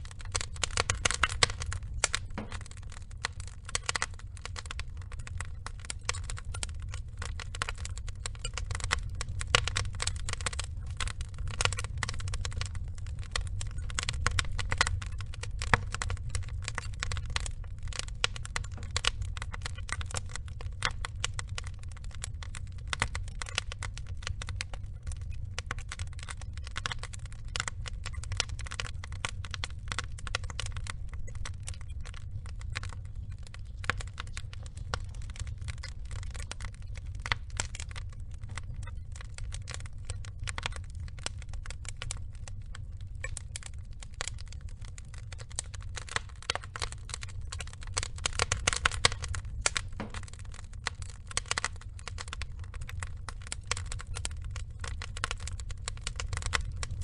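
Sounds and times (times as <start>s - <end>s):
fire low rumble: 0.0s - 57.0s
wood fire crackling: 0.0s - 57.0s.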